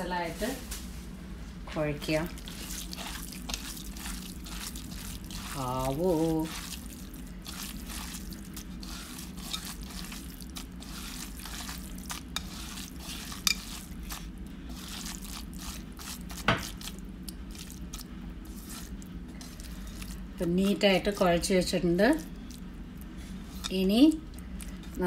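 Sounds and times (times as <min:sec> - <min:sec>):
rice kneaded by hand squelching: 0:02.0 - 0:25.0.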